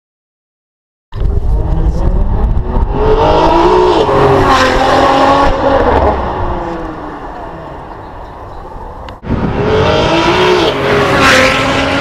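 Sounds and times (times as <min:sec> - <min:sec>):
car engine accelerating: 0:01.2 - 0:12.0.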